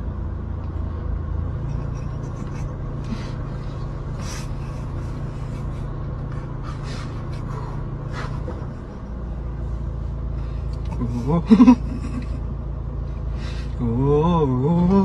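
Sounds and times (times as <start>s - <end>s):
car interior hum: 0.0s - 15.0s.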